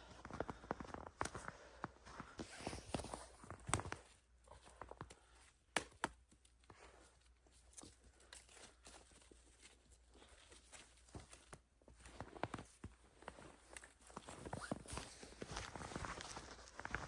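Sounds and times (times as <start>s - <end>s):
faint clicks and rustles of handling: 0.0s - 17.0s.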